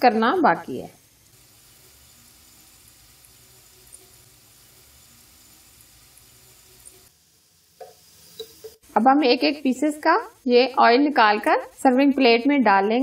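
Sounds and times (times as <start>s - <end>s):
samosas deep-frying in oil: 0.0s - 13.0s.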